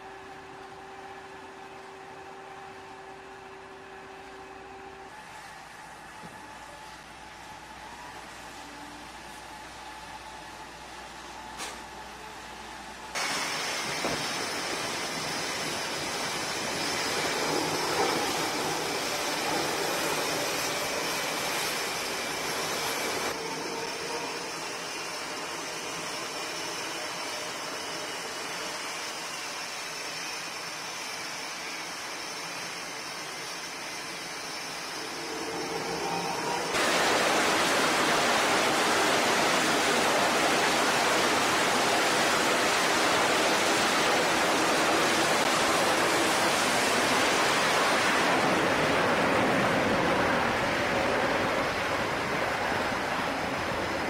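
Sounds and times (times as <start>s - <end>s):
jet engines whining and hissing: 0.0s - 54.0s.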